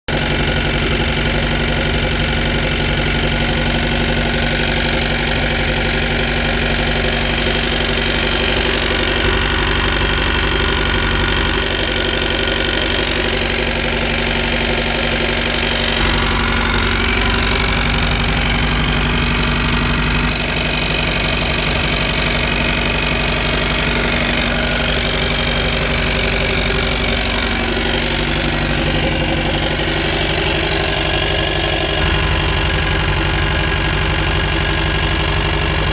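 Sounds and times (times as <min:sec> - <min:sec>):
boat engine running: 0:00.0 - 0:35.9
engine knocking: 0:00.0 - 0:35.9.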